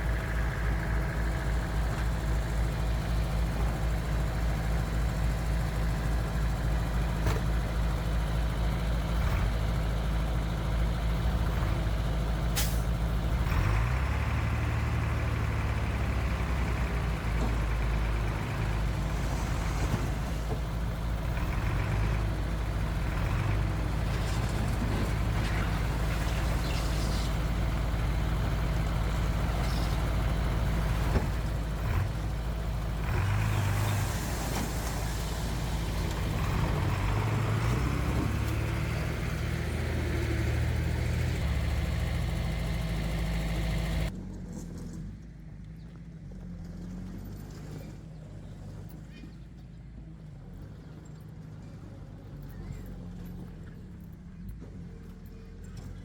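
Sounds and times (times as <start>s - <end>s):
diesel earthmoving machinery running: 0.0s - 56.0s.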